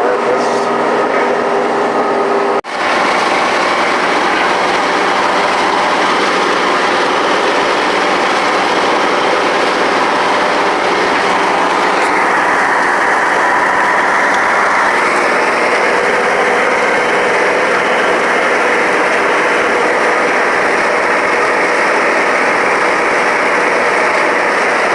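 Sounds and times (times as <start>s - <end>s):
combine harvester engine hum: 0.0s - 24.9s
machinery clatter: 0.1s - 24.9s.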